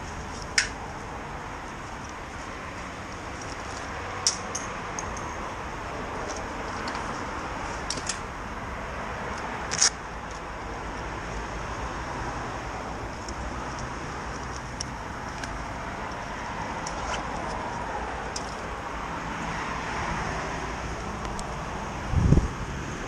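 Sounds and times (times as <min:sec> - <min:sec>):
motorcycle road and wind noise: 0:00.0 - 0:23.0.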